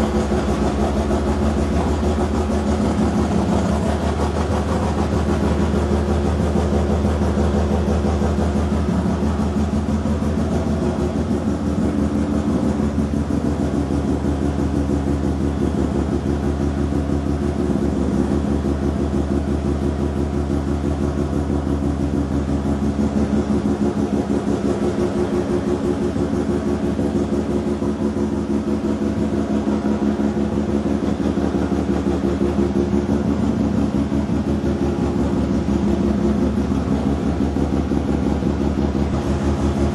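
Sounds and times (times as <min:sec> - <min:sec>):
rotary engine idling: 0:00.0 - 0:39.9.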